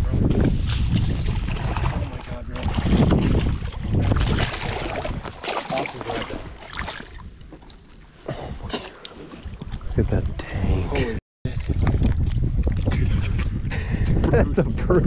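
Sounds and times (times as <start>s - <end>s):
wind buffeting microphone: 0.0s - 7.6s, 9.4s - 15.0s.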